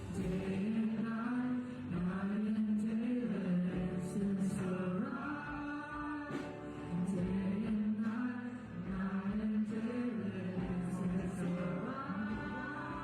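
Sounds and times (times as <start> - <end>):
slow sung worship music: 0.0 - 13.0.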